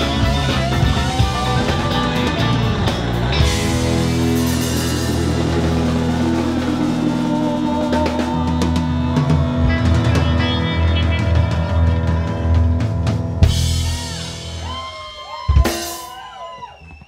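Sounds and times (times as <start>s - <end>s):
rock band playing: 0.0s - 16.8s.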